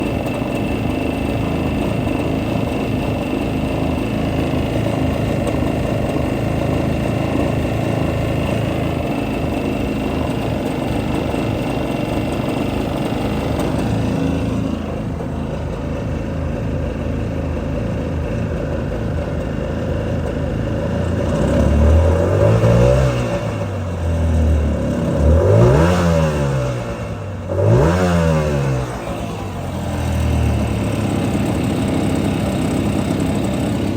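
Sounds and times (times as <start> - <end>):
jet ski engine idling and revving: 0.0 - 33.9.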